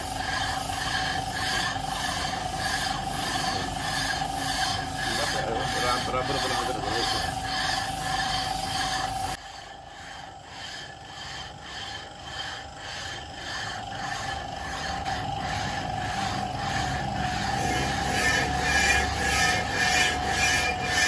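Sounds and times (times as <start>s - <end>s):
metal scraping on metal: 0.0s - 21.0s
steady squeal-like tone: 0.0s - 21.0s.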